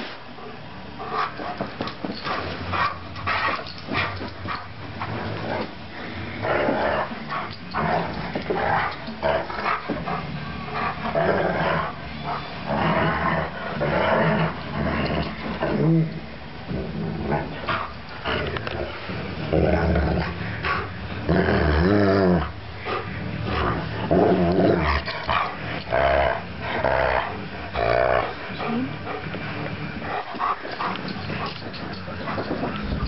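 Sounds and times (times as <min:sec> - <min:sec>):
dog growling and yipping: 0:02.3 - 0:33.0.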